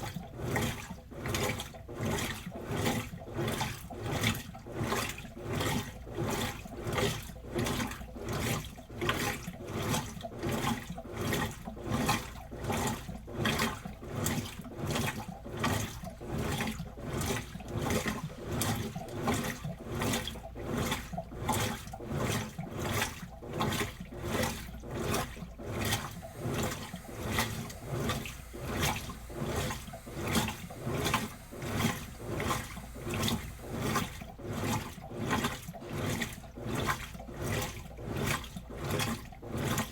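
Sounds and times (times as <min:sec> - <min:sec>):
washing machine sloshing: 0:00.0 - 0:39.9.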